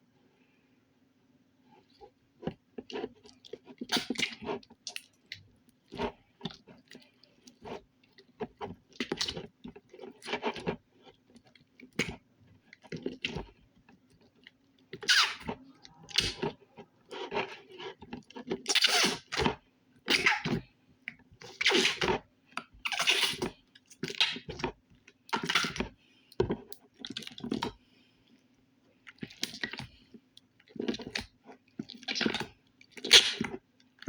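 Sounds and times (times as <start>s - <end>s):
slime squishing and squelching: 1.8s - 27.8s, 29.0s - 34.0s.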